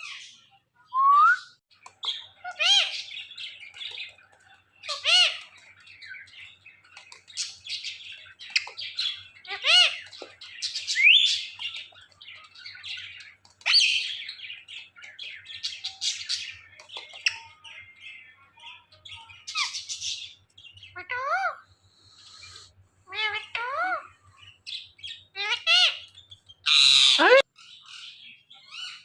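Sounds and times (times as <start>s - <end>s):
parakeet chirping and squawking: 1.8s - 17.9s, 19.2s - 21.6s, 22.2s - 27.8s.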